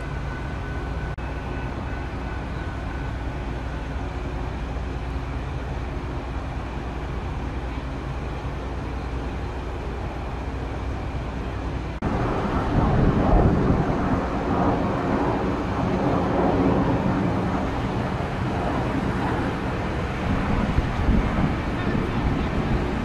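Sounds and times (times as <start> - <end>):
diesel train engine rumbling: 0.0 - 23.0
train rolling noise: 0.0 - 23.0.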